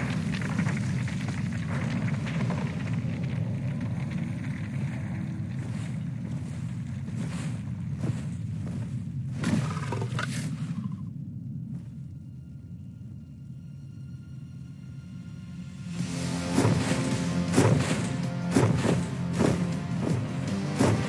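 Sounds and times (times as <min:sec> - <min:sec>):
deep rumble: 0:00.0 - 0:21.0.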